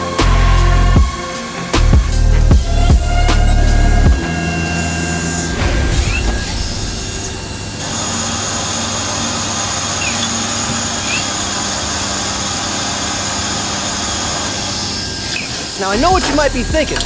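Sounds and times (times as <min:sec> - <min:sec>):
high whine: 0:00.0 - 0:17.0
machine hum: 0:00.0 - 0:17.0.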